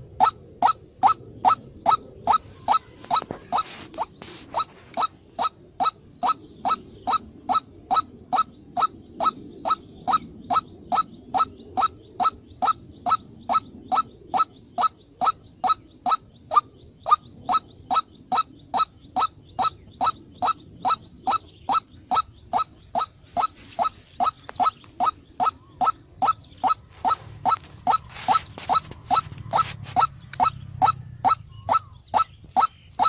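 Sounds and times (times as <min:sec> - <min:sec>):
rising chirp-like bird call: 0:00.1 - 0:33.0.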